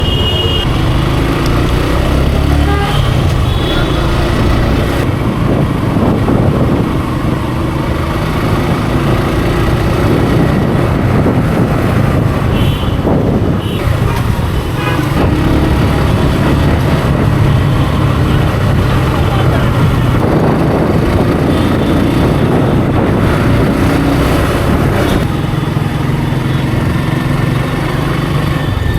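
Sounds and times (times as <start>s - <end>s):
wind and road noise: 0.0s - 28.9s
motorcycle engine revving: 0.5s - 28.9s.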